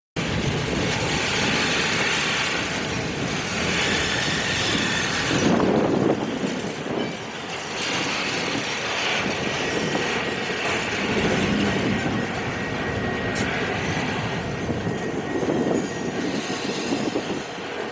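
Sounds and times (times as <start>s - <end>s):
freight train rolling on rails: 0.2s - 17.9s.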